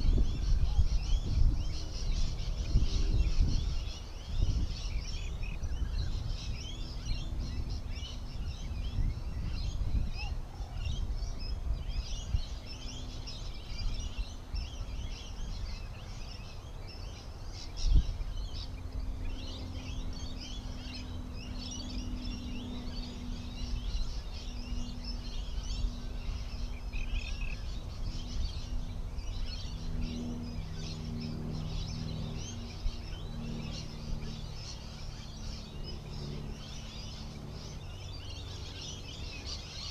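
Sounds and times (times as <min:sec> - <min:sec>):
birds chirping: 0:00.0 - 0:39.9
engine humming: 0:00.0 - 0:39.9.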